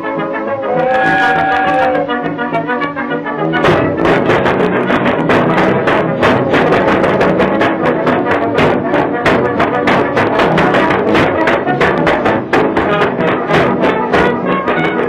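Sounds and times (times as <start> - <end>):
lively instrumental cartoon music: 0.0 - 15.0.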